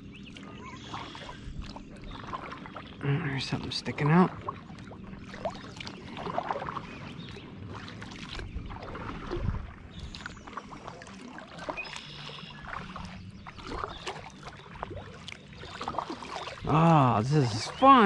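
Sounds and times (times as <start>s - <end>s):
kayak paddle splashing water: 0.0s - 18.0s.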